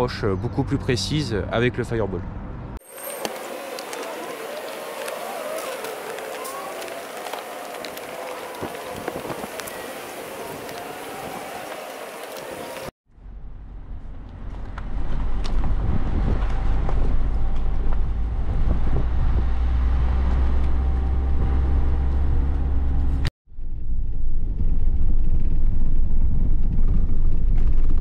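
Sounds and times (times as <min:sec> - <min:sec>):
car rumbling over cobblestones: 0:02.9 - 0:28.0.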